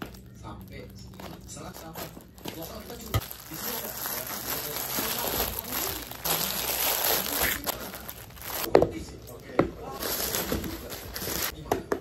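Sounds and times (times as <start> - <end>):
plastic wrapping crinkling: 0.0 - 11.6.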